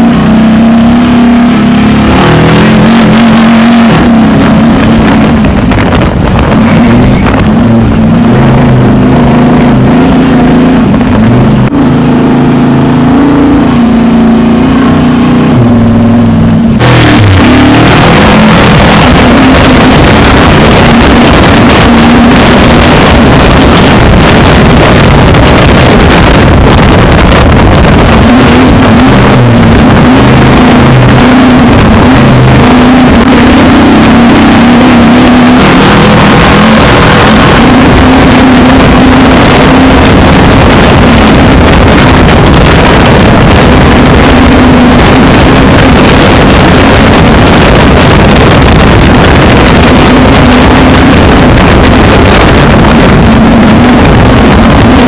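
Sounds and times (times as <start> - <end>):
dense rushing noise: 0.0 - 55.0
race truck engine running hard: 0.0 - 55.0.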